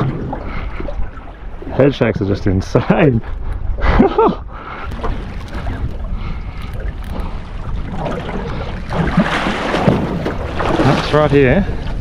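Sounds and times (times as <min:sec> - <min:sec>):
water moving around boat hull: 0:00.0 - 0:12.0
wind buffeting microphone: 0:00.0 - 0:12.0.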